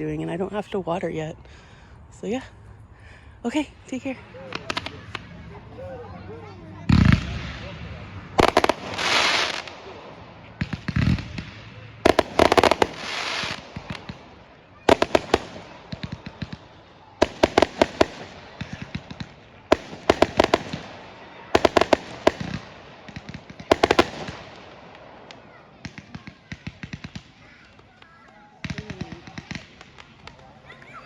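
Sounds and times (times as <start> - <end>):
fireworks bangs and crackles: 3.4 - 31.0.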